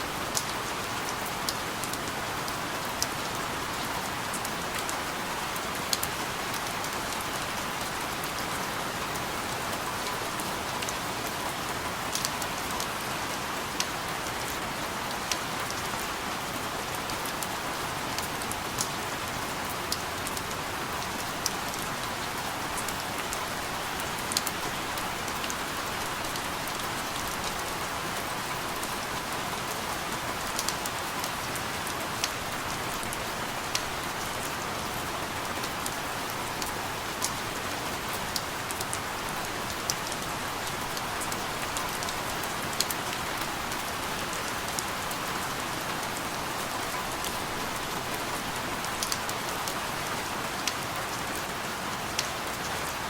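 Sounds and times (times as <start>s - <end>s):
steady rain hiss: 0.0s - 53.0s
raindrops ticking on surface: 0.1s - 53.0s.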